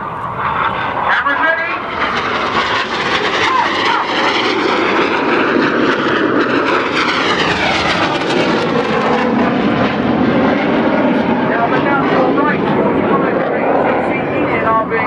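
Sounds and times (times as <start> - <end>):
jet aircraft roar: 0.0 - 15.0.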